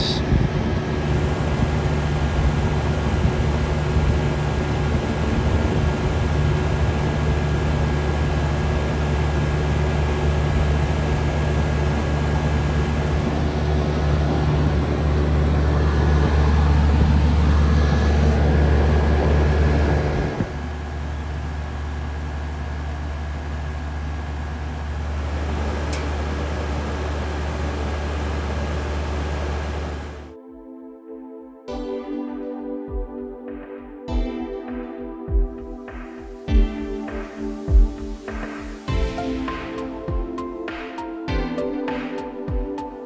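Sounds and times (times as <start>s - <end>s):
compressor humming: 0.0s - 30.3s, 35.4s - 40.6s
condenser fan rushing air: 0.0s - 30.3s, 35.7s - 41.8s.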